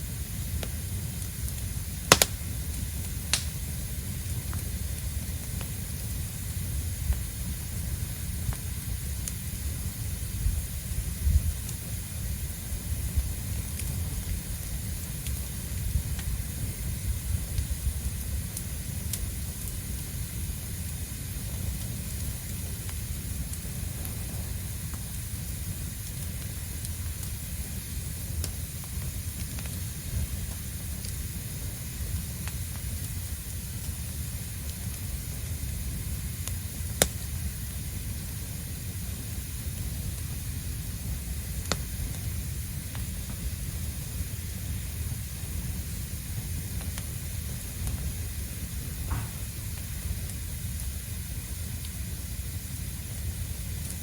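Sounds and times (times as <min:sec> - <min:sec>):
bonfire hissing and rushing: 0:00.0 - 0:54.0
sharp fire crackles: 0:00.0 - 0:54.0.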